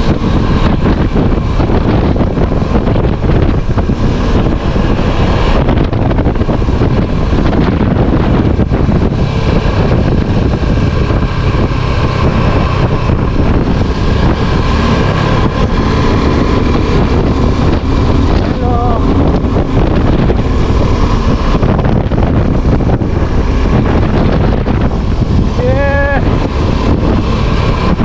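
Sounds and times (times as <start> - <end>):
vehicle engine running: 0.0 - 28.0
wind buffeting microphone: 0.0 - 28.0.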